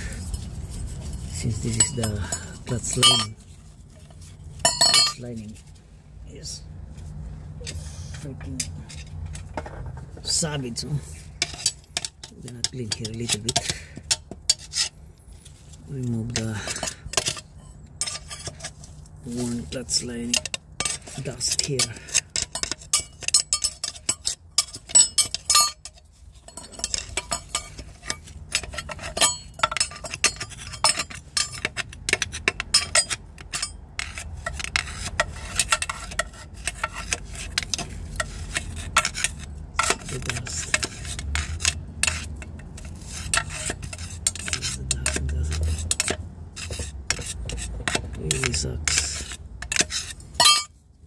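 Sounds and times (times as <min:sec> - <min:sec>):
metal tool scraping and tapping: 0:00.0 - 0:05.6, 0:07.6 - 0:15.0, 0:16.0 - 0:50.8.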